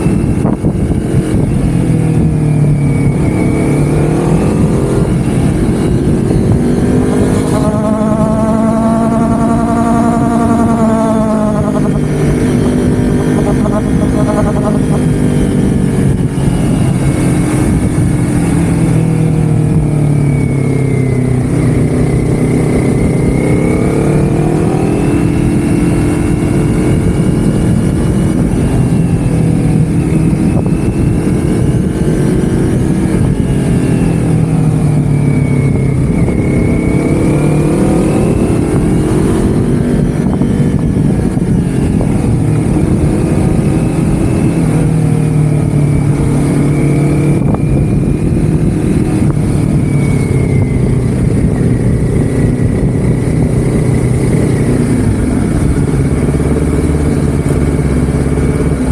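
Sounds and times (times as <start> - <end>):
vehicle engine revving: 0.0 - 58.9.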